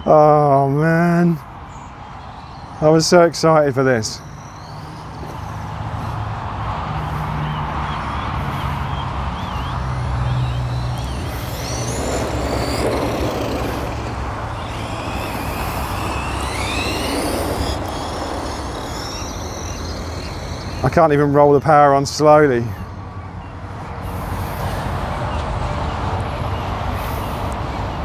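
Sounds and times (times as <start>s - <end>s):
electric motors whining: 1.5s - 25.5s.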